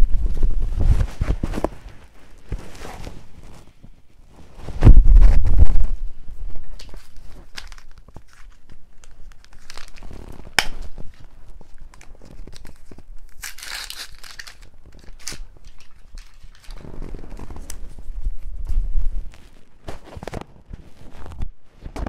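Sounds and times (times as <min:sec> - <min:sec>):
stomach crackles and clicks: 0:00.0 - 0:22.0.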